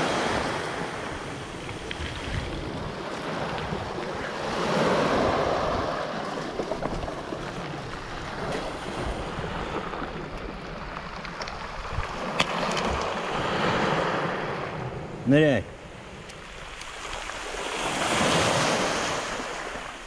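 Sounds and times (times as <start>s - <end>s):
waves washing over pebbles: 0.0s - 20.0s
wind buffeting microphone: 0.0s - 20.0s.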